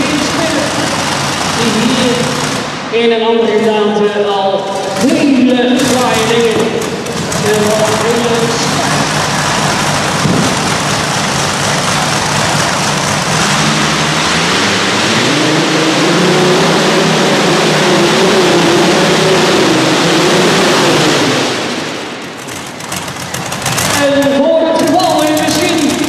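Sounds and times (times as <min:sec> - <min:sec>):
racing engine at full throttle: 0:00.0 - 0:26.0.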